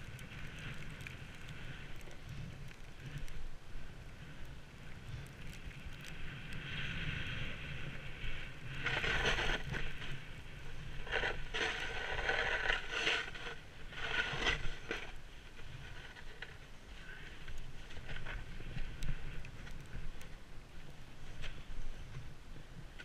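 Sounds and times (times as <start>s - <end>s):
wind rumble on microphone: 0.0s - 23.0s
ski edges scraping snow: 3.9s - 22.3s.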